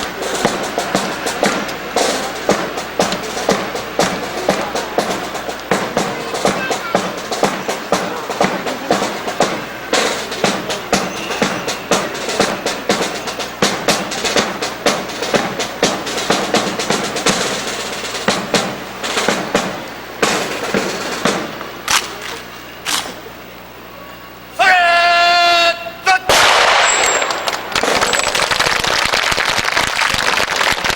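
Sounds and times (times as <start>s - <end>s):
snare drum beats and rolls: 0.0s - 21.9s, 26.3s - 30.9s.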